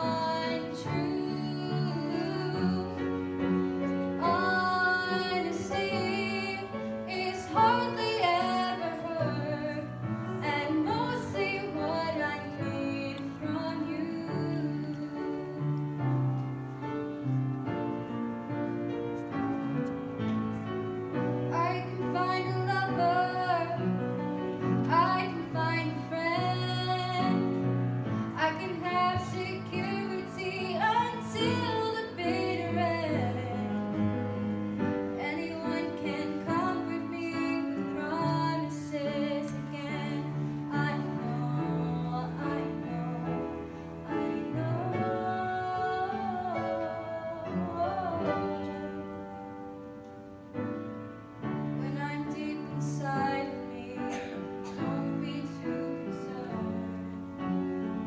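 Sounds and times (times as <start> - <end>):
woman singing: 0.0 - 16.2, 21.5 - 34.2, 34.8 - 49.6, 51.6 - 57.0
instrumental backing music: 0.0 - 58.0.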